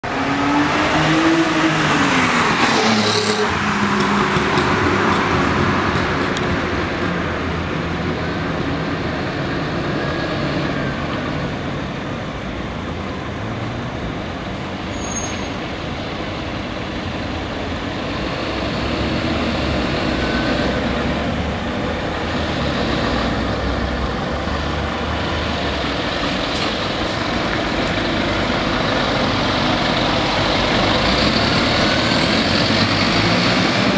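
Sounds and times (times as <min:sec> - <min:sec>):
road traffic: 0:00.0 - 0:33.9
fire truck diesel engine: 0:03.4 - 0:33.9.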